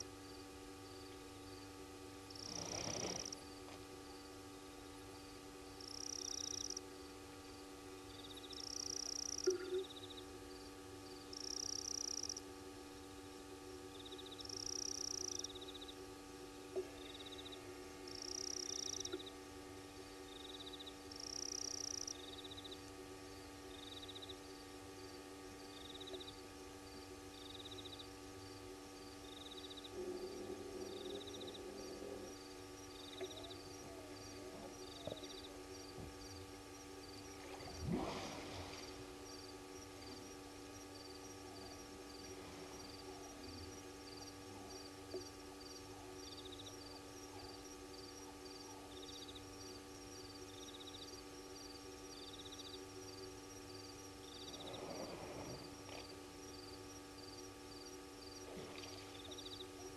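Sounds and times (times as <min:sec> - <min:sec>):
electrical hum: 0:00.0 - 0:59.9
insects chirping: 0:00.1 - 0:04.4, 0:05.1 - 0:12.5, 0:13.9 - 0:16.0, 0:16.9 - 0:59.9.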